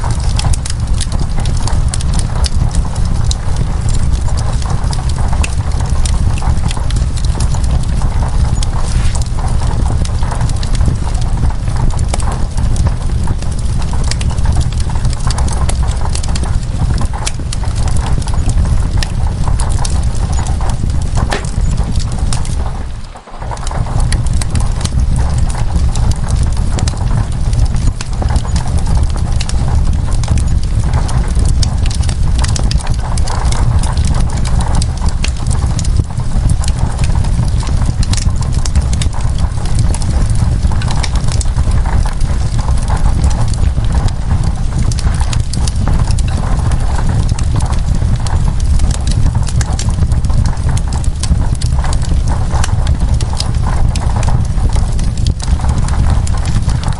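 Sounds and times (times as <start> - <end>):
rain on window glass: 0.0 - 56.9
wood fire crackling: 0.0 - 56.9.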